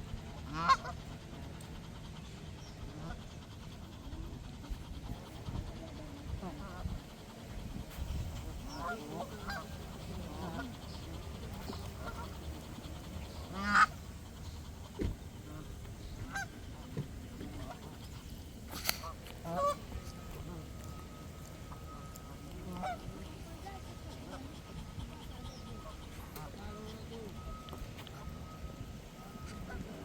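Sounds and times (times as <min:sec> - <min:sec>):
birds calling: 0:02.1 - 0:30.0.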